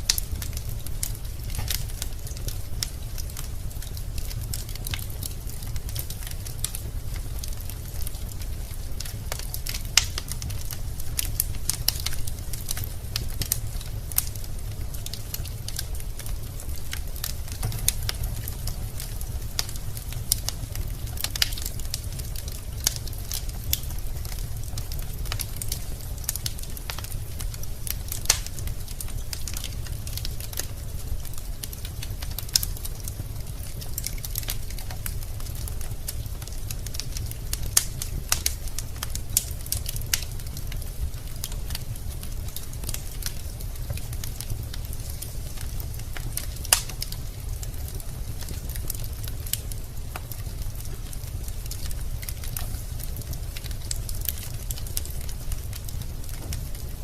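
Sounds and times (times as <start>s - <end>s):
loud fire pops: 0.0s - 57.0s
wood fire crackling: 0.0s - 57.0s.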